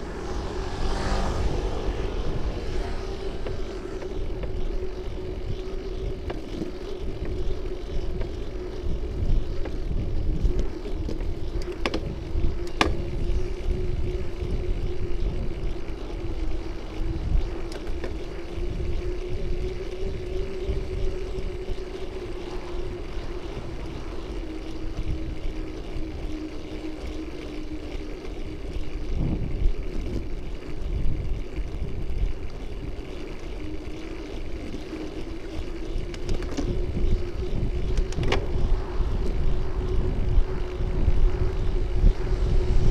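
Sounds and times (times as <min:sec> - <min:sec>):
faint steady hum: 0:00.0 - 0:42.9
wind and road rumble: 0:00.0 - 0:42.9.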